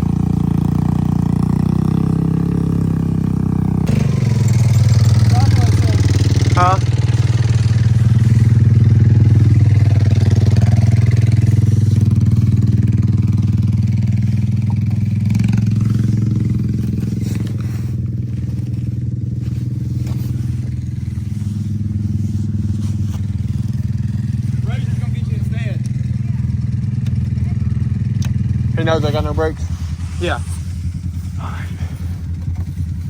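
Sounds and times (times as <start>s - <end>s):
small off-road engine running: 0.0s - 33.0s.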